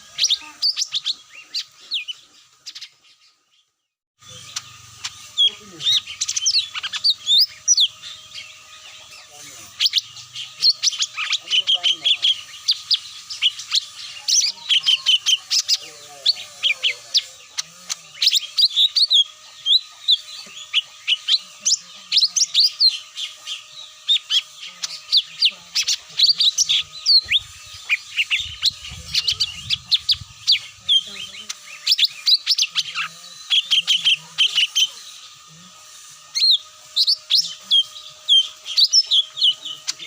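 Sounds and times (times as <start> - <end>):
birds chirping and twittering: 0.0 - 40.0.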